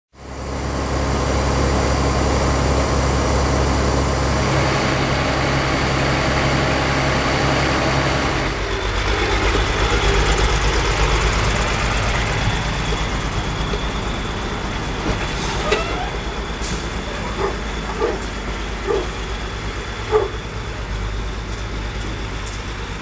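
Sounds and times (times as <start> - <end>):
tractor engine idling: 0.2 - 23.0.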